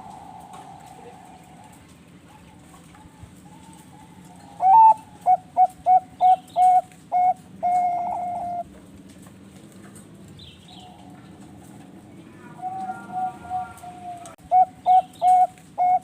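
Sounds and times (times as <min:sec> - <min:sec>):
dove cooing: 0:00.0 - 0:08.7, 0:10.7 - 0:16.0
faint coos of another dove: 0:00.0 - 0:08.7, 0:10.8 - 0:16.0.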